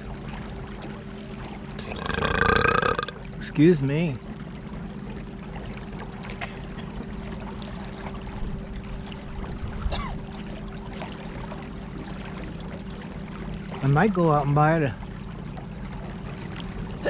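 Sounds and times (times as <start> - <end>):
river water rushing along hull: 0.0 - 17.0.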